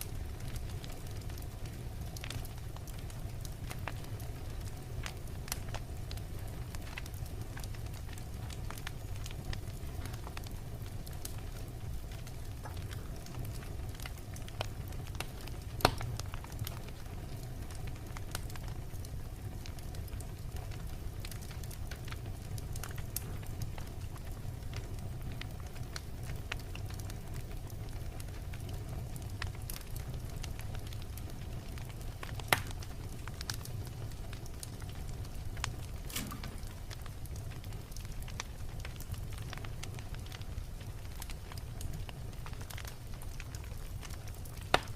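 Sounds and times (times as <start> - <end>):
fire crackling: 0.0 - 44.9
loud fire pops: 0.0 - 44.9
low rumble of flames: 0.0 - 44.9.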